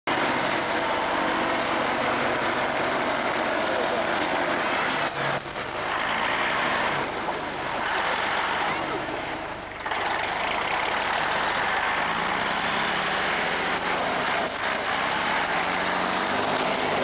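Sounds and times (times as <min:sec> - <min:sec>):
truck engine running hard: 0:00.1 - 0:17.0.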